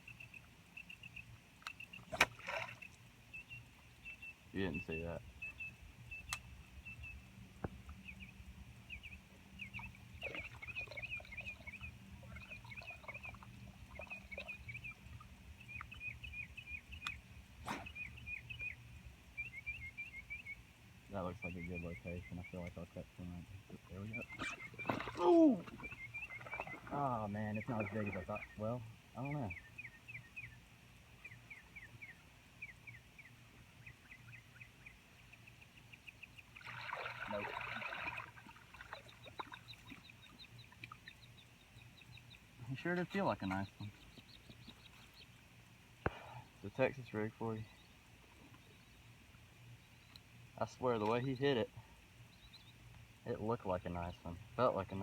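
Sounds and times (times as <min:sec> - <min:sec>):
bird chirping: 0:00.0 - 0:30.6, 0:31.2 - 0:49.1, 0:49.7 - 0:55.0.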